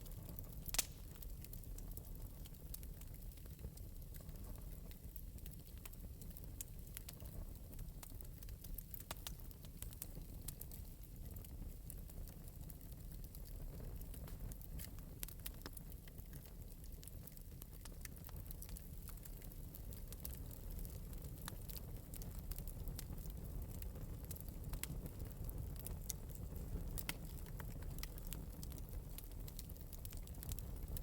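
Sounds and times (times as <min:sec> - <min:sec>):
fire crackling in metal fireplace: 0:00.0 - 0:31.0.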